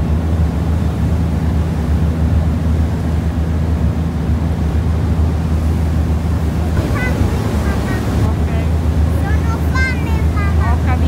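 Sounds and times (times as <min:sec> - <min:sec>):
boat engine humming: 0:00.0 - 0:11.0
water churning along hull: 0:00.0 - 0:11.0.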